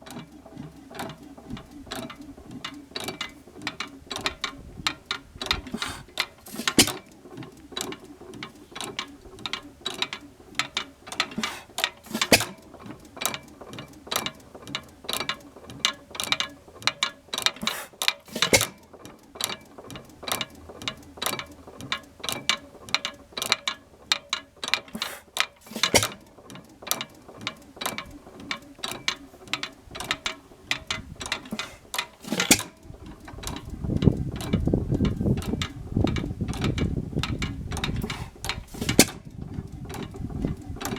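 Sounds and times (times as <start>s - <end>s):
engine knock: 0.0s - 40.9s
stationary engine running: 0.0s - 40.9s
valve gear clicking: 0.0s - 40.9s.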